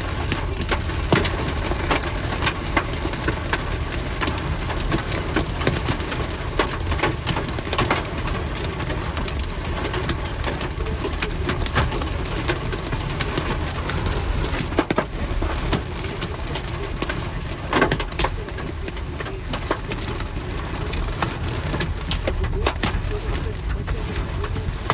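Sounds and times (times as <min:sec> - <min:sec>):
hailstones pelting: 0:00.0 - 0:24.9
rain falling: 0:00.0 - 0:24.9.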